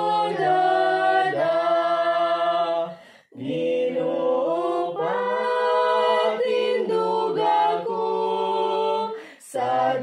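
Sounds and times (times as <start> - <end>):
young voices singing a hymn: 0.0 - 10.0.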